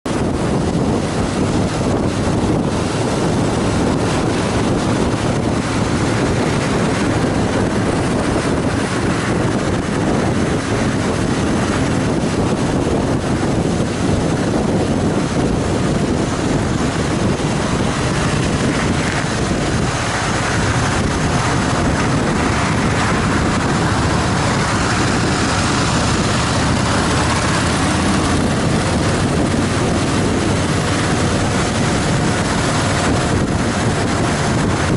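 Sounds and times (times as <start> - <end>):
motorcycle engine cruising: 0.0 - 34.9
wind rushing over microphone: 0.0 - 34.9.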